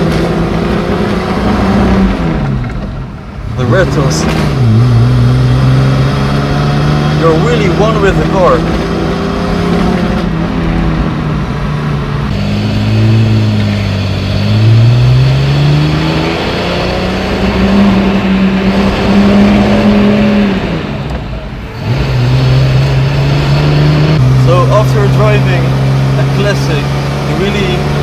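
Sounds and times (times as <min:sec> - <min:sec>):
car engine heard from cabin: 0:00.0 - 0:28.0.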